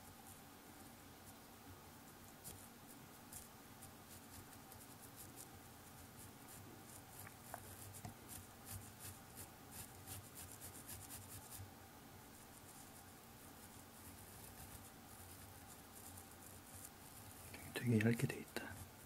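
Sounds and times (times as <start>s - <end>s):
brush scratching on paper: 2.0s - 11.6s, 12.3s - 19.0s.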